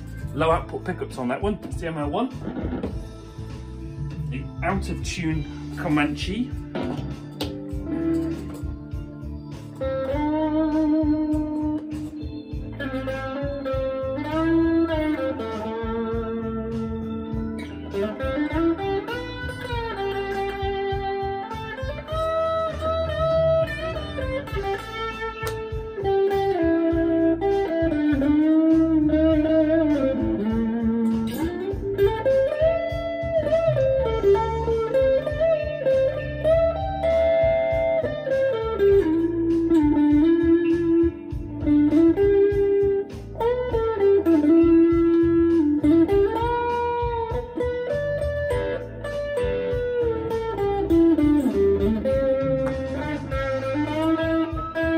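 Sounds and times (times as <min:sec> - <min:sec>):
backing track: 0:00.0 - 0:54.9
bluesy electric guitar lead: 0:00.0 - 0:54.9.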